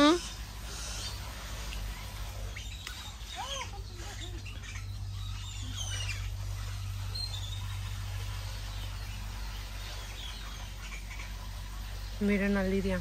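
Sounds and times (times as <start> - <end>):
birds chirping: 0.0 - 13.0
low hum: 0.0 - 13.0.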